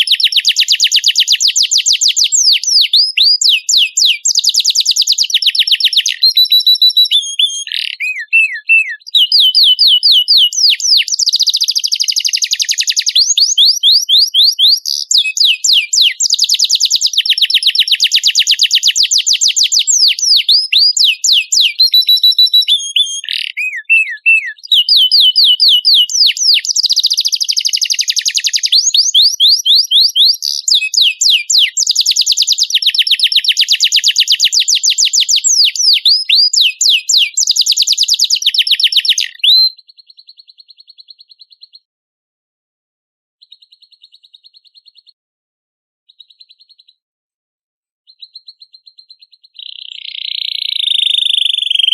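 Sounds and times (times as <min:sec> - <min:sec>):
canary singing trills: 0:00.0 - 0:41.9, 0:43.4 - 0:45.2, 0:46.1 - 0:47.0, 0:48.1 - 0:51.9.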